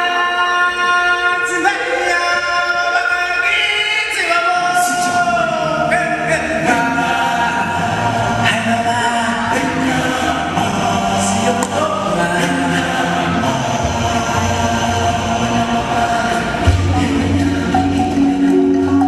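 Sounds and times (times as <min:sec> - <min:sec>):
choir singing held chords: 0:00.0 - 0:19.0
musical accompaniment: 0:00.0 - 0:19.0.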